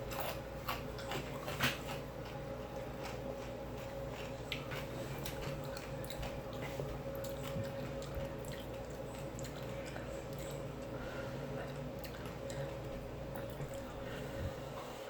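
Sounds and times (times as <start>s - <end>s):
wet chewing: 0.0s - 14.3s
steady low hum: 0.0s - 15.0s.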